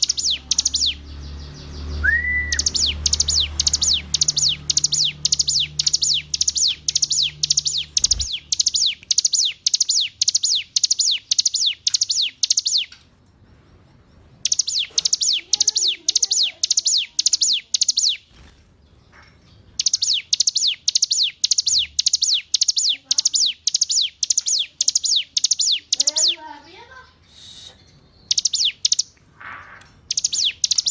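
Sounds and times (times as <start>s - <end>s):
bird singing high chirps: 0.0s - 13.0s, 14.4s - 29.2s, 29.8s - 30.9s.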